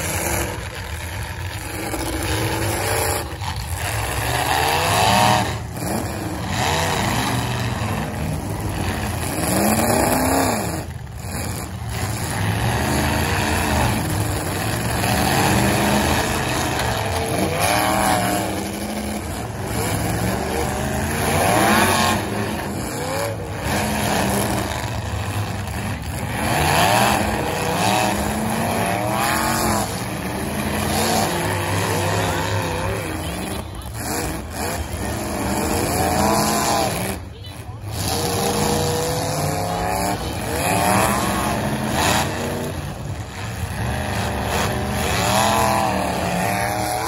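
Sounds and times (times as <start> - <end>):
car engines revving: 0.0 - 47.0
din of other engines: 0.0 - 47.0.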